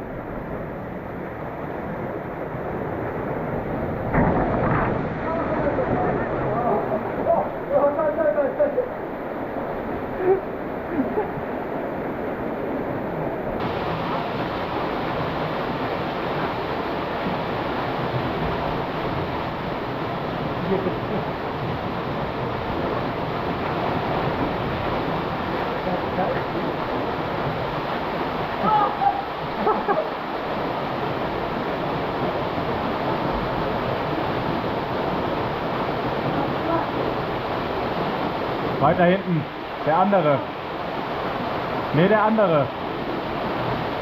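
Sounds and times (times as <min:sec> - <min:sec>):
rushing stream water: 0:00.0 - 0:44.0.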